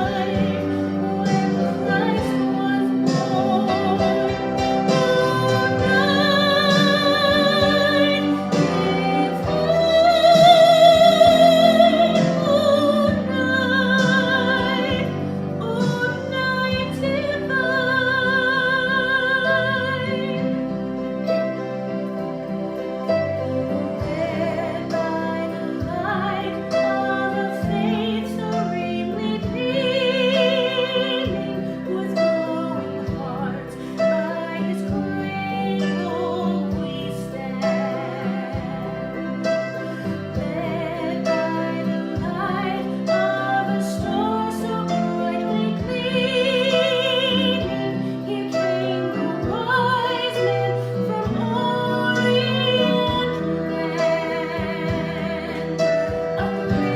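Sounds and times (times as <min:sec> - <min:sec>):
instrumental accompaniment: 0:00.0 - 0:56.9
woman singing classical song: 0:00.0 - 0:56.9.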